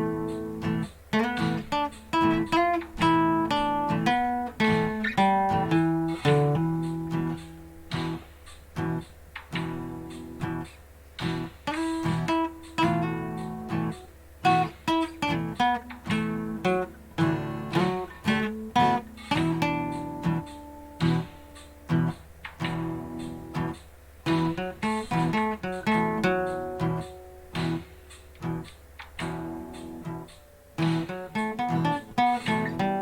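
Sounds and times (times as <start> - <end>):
acoustic guitar blues: 0.0 - 33.0.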